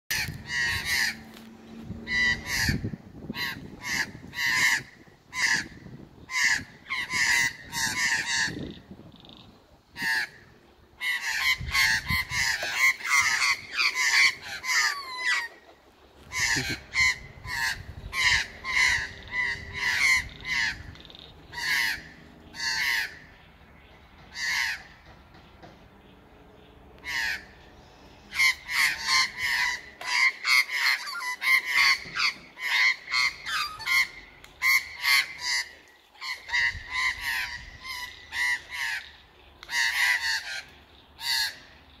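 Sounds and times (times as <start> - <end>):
magpies harsh alarm calls: 0.1 - 1.3, 2.0 - 9.3, 10.0 - 15.5, 16.2 - 25.0, 27.0 - 27.6, 28.3 - 41.8.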